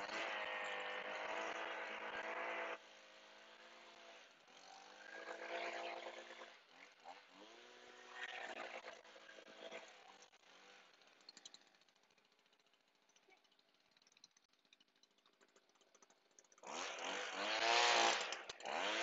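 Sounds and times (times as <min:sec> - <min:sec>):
leaf blower revving and idling: 0:00.0 - 0:13.0, 0:15.7 - 0:19.0.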